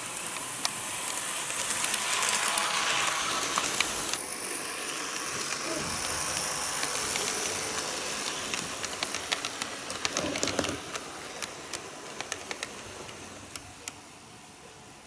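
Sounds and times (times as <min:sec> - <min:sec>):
model train rolling hiss: 0:00.0 - 0:14.6.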